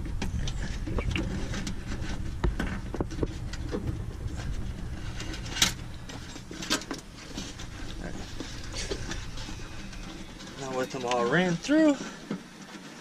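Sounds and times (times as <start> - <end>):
low rumble: 0.0 - 12.3.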